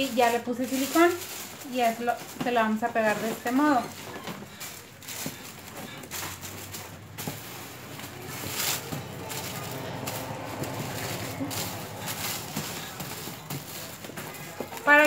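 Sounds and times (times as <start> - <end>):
tissue paper rustling: 0.0 - 15.0.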